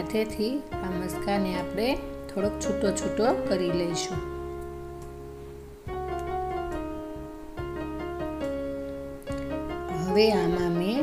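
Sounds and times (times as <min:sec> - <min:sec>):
slow keyboard tune: 0:00.0 - 0:11.0.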